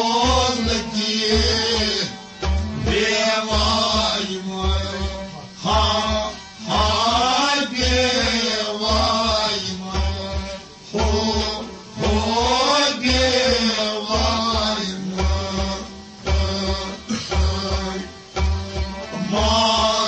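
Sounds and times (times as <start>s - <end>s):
low drum beat: 0.0s - 20.0s
person singing: 0.0s - 20.0s
steady drone: 0.0s - 20.0s.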